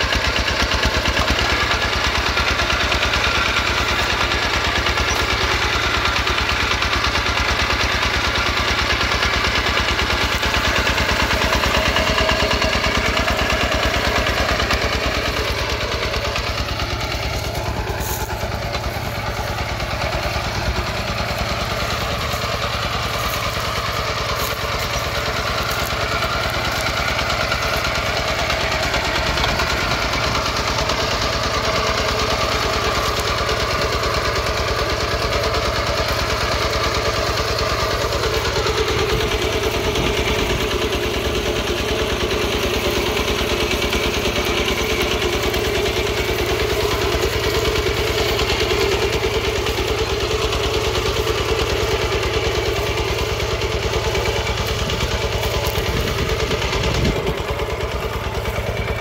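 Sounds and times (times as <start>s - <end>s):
diesel engine chugging: 0.0s - 59.0s
tine cutting through soil: 0.0s - 59.0s.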